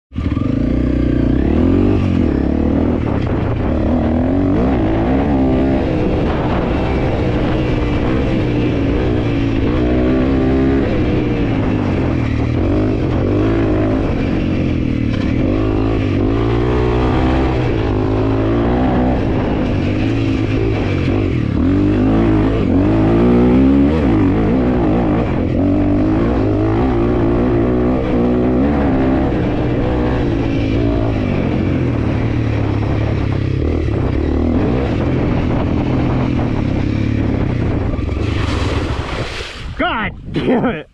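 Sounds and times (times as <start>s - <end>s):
motorcycle engine revving: 0.1s - 39.4s.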